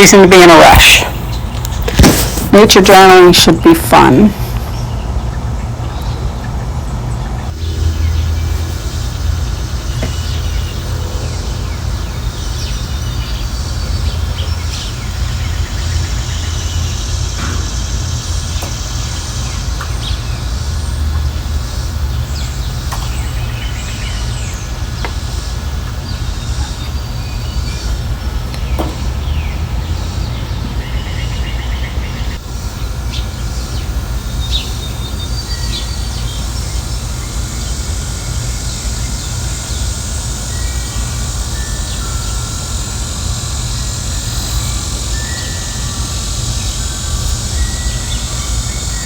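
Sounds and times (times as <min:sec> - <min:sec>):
small birds chirping: 0:04.4 - 0:49.0.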